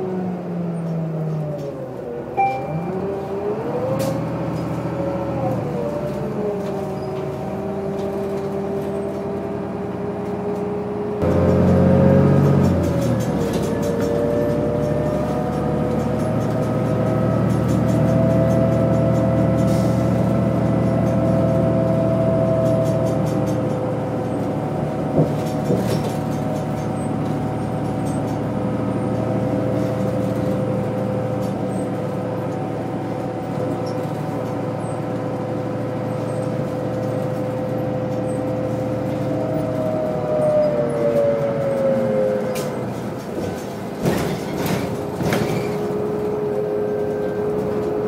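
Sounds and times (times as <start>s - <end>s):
bus engine whine: 0.0s - 48.0s
road and tyre noise: 0.0s - 48.0s.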